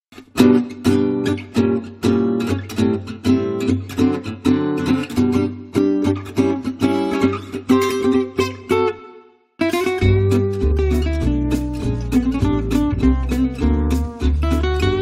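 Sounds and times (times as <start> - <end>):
strummed acoustic guitar: 0.1 - 15.0.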